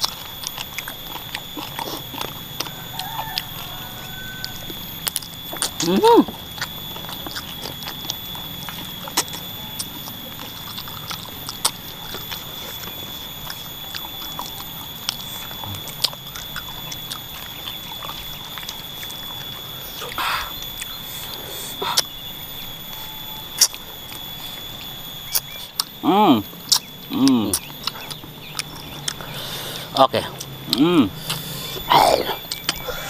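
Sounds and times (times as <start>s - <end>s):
chewing and slurping: 0.0s - 33.0s.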